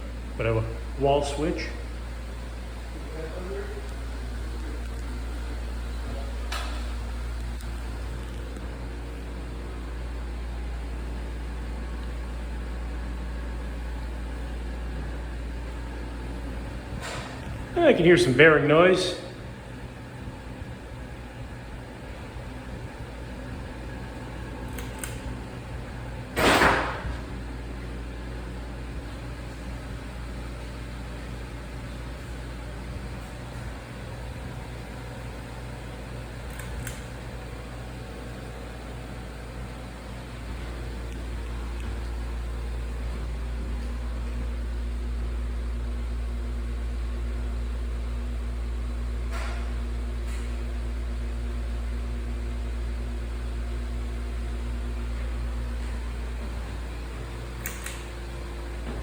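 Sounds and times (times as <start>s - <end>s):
ceiling fan humming: 0.0s - 59.0s.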